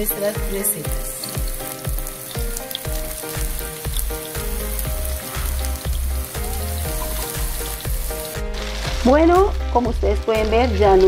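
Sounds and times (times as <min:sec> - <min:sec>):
meatballs sizzling in oil: 0:00.0 - 0:11.0
music with low beat: 0:01.4 - 0:11.0.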